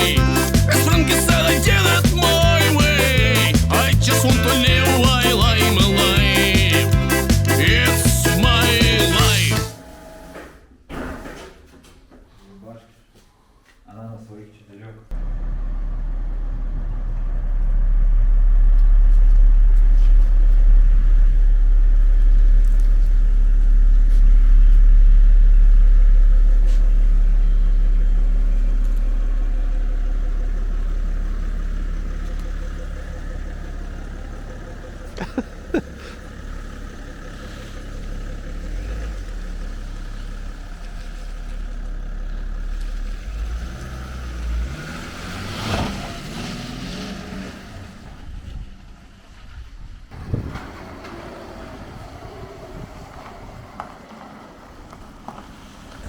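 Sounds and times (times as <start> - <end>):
car engine rumble: 0.0 - 10.9, 15.1 - 56.0.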